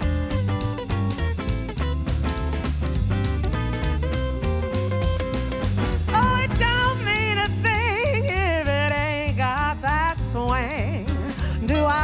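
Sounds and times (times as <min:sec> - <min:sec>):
jazz band playing swing: 0:00.0 - 0:12.0.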